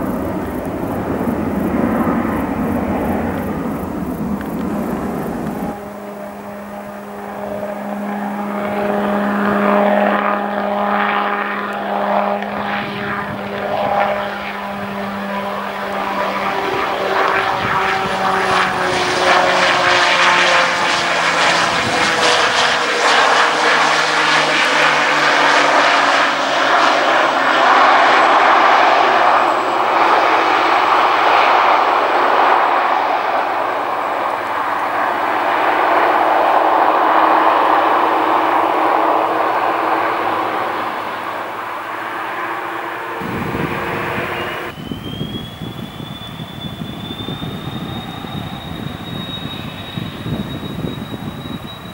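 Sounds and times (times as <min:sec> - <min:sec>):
propeller drone: 0:00.0 - 0:51.9
rushing engine noise: 0:00.0 - 0:51.9.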